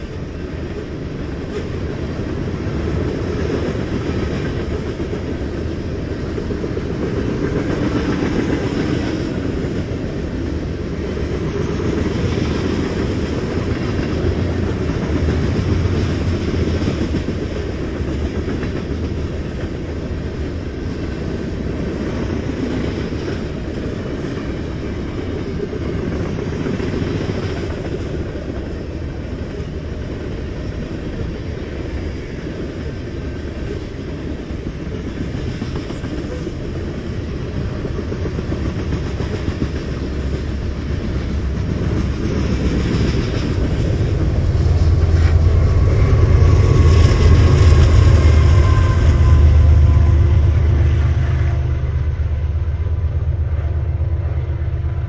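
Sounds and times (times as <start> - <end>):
wheels clattering on rails: 0.0 - 52.2
freight train rolling past: 0.0 - 55.0.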